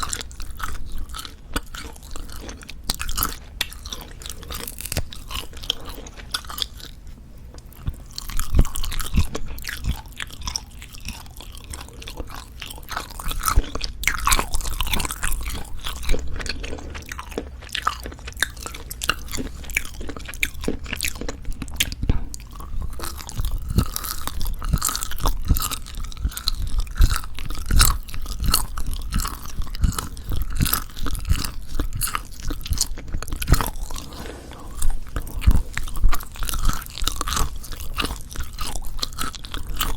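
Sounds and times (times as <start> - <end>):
chewing meat: 0.0 - 39.9.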